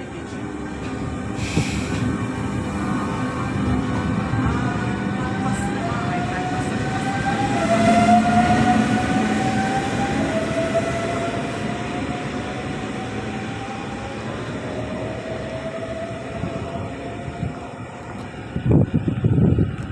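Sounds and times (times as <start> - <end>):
train rolling rumble: 0.0 - 19.9.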